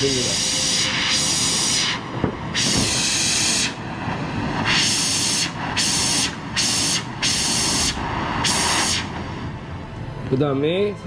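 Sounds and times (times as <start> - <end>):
high gas hiss bursts: 0.0 - 9.4
torch flame rushing: 0.0 - 9.6.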